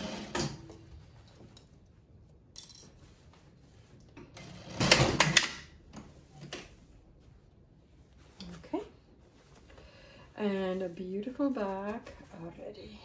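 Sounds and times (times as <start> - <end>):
fabric handling: 0.6 - 4.4, 5.6 - 13.0.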